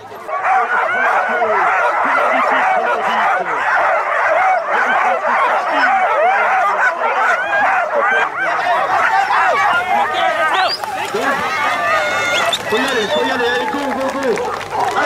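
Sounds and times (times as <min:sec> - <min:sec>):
sled dogs barking and yelping: 0:00.0 - 0:15.0.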